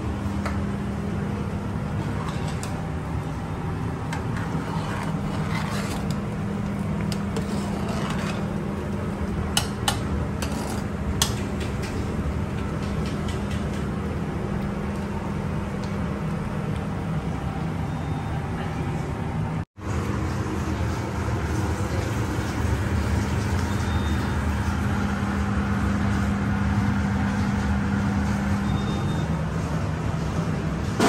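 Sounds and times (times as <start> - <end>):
kitchen gas range roaring: 0.0 - 31.0.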